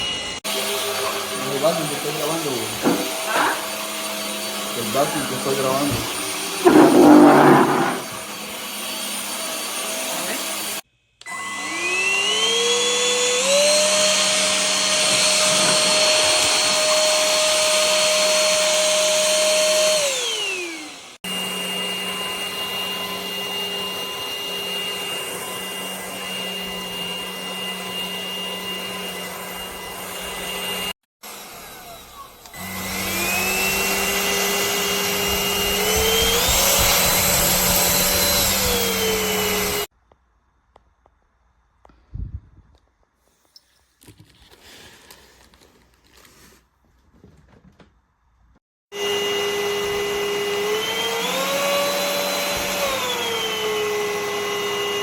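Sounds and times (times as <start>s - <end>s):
vacuum motor whine: 0.0s - 39.9s, 48.9s - 55.0s.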